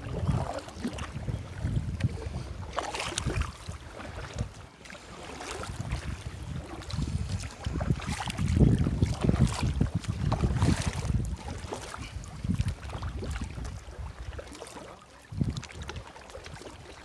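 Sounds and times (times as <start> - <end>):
wind buffeting microphone: 0.0 - 4.6, 5.4 - 14.4, 15.3 - 16.7
paddle strokes splashing water: 0.0 - 17.0.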